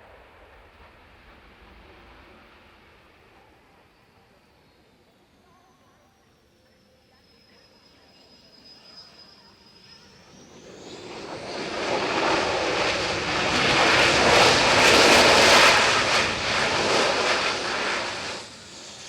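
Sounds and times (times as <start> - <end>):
jet passing overhead: 0.0 - 5.4, 8.3 - 19.0
thin rising whine: 0.1 - 19.0.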